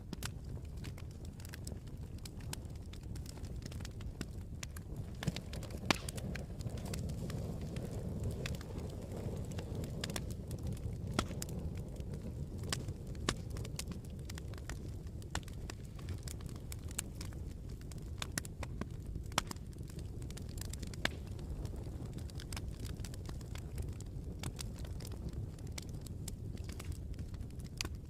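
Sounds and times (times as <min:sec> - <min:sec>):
burning wood popping: 0:00.0 - 0:28.0
campfire crackling: 0:00.0 - 0:28.0.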